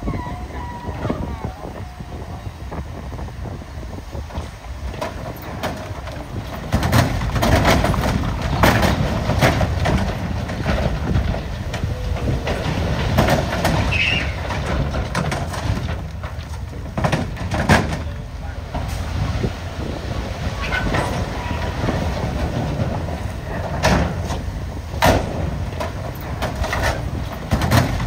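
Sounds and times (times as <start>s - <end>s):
dump truck diesel engine: 0.0s - 28.0s.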